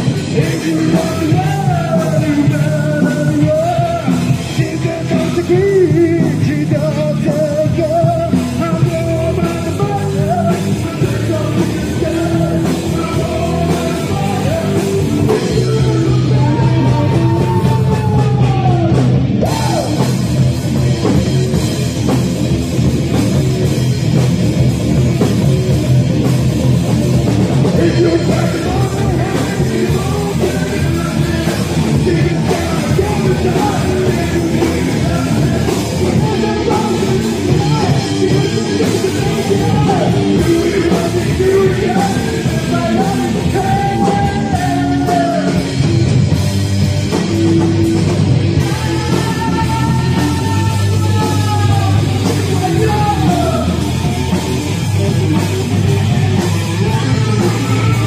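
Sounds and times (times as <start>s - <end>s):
lead vocal singing: 0.0s - 21.7s, 27.4s - 46.4s, 47.0s - 58.0s
rock band playing: 0.0s - 58.0s.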